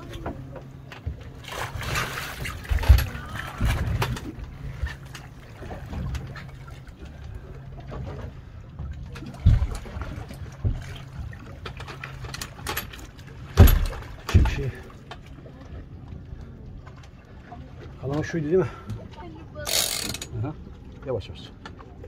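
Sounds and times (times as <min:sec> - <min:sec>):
boat engine idling: 0:00.0 - 0:22.0
water splashing against hull: 0:00.0 - 0:22.0.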